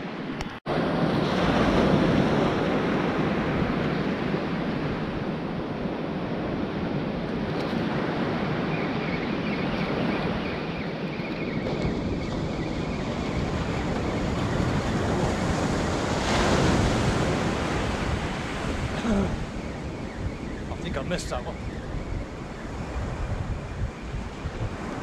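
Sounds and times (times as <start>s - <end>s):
sea surf washing on shore: 0.0s - 25.0s
wind buffeting microphone: 0.0s - 25.0s.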